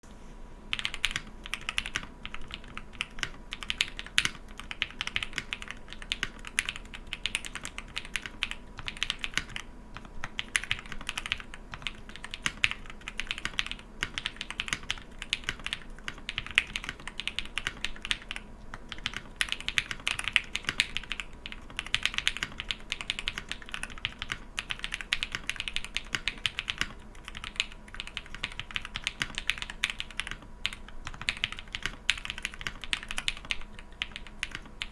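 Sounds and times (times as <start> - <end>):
mechanical keyboard typing: 0.7 - 34.9.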